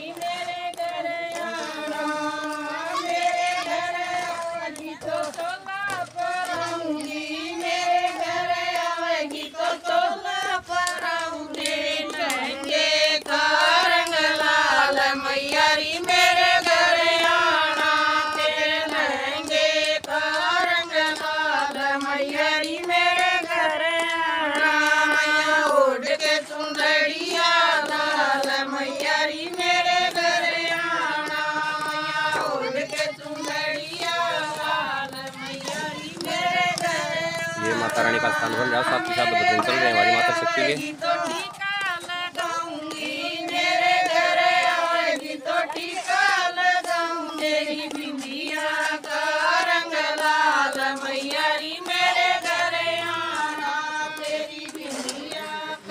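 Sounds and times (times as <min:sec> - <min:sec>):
women singing together: 0:00.0 - 0:55.9.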